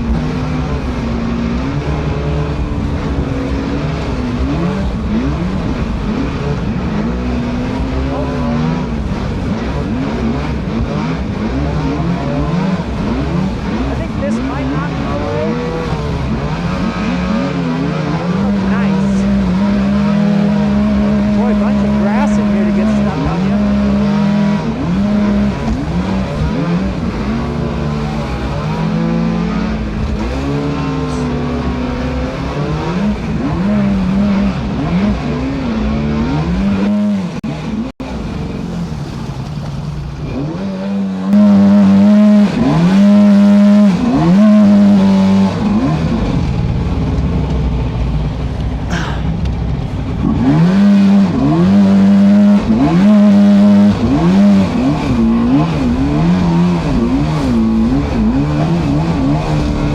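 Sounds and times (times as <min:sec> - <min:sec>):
boat motor whining: 0:00.0 - 0:59.9.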